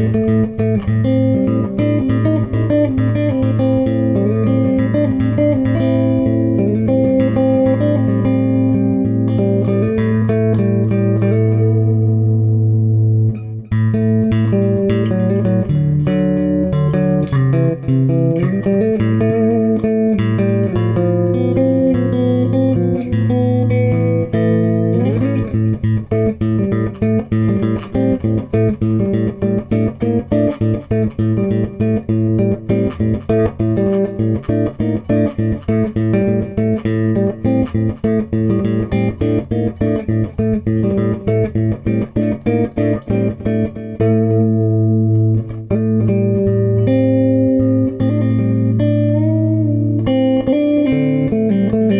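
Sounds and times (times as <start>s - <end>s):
picked guitar: 0.0s - 51.9s.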